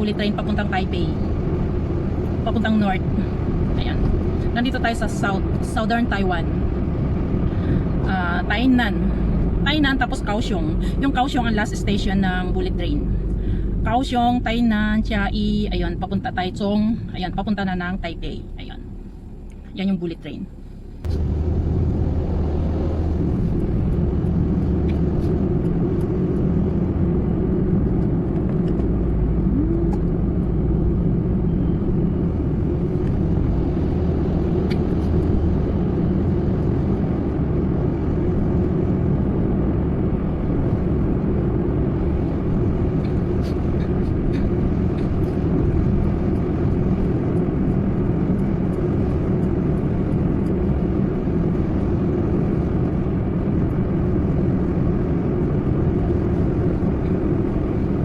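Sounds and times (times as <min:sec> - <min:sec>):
road and engine rumble in car: 0:00.0 - 0:58.0.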